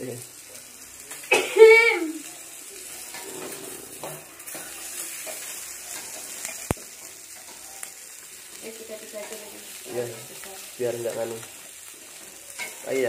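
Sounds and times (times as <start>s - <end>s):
chicken sizzling on grill pan: 0.0s - 13.0s.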